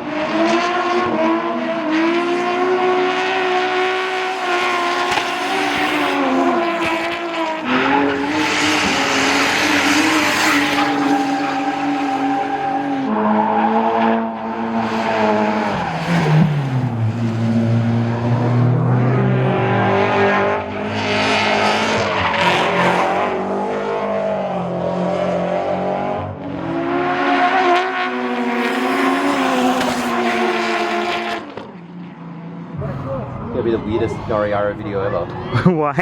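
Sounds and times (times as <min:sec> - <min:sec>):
car engines revving hard: 0:00.0 - 0:35.4.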